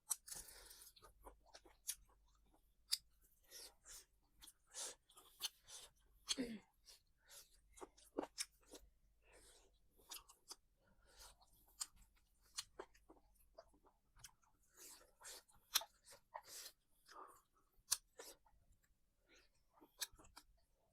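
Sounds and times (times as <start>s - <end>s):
person chewing food: 0.0s - 20.9s.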